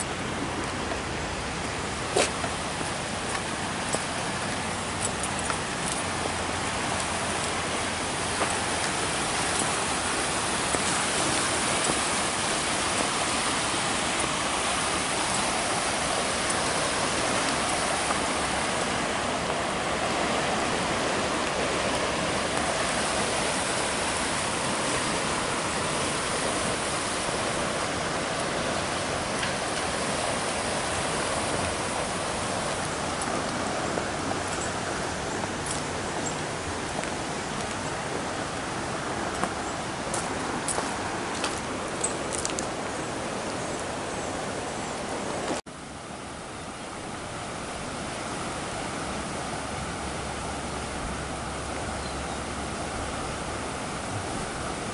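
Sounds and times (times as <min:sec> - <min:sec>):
floodwater rushing: 0:00.0 - 0:54.9.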